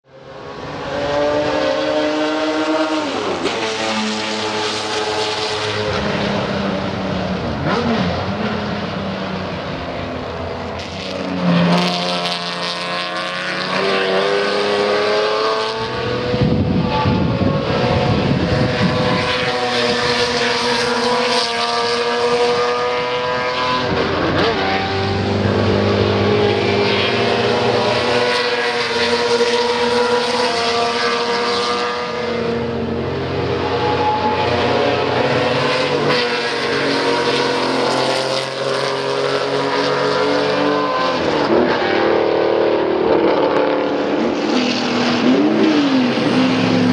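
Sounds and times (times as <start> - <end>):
race car engine revving: 0.1 - 46.9.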